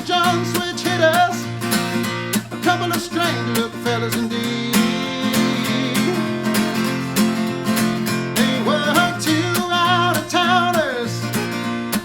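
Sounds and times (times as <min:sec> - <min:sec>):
man singing: 0:00.0 - 0:11.7
acoustic guitar strumming: 0:00.0 - 0:12.0.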